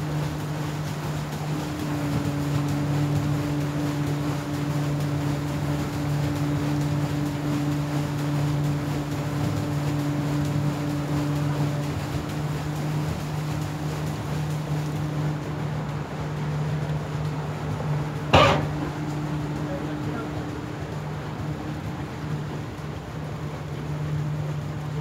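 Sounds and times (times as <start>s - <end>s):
ferry engine humming: 0.0s - 25.0s
wind and water rushing: 0.0s - 25.0s.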